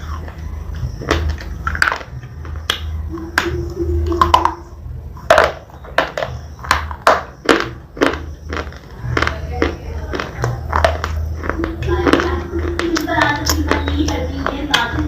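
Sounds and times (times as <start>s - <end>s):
crunching bites: 0.0s - 15.0s
steady low hum: 0.0s - 15.0s.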